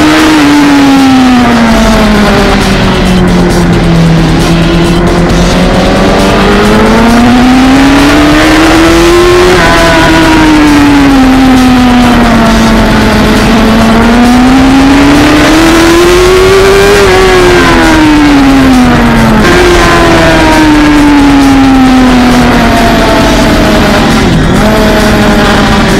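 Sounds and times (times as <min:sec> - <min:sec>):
racing motorcycle engine revving: 0:00.0 - 0:25.9.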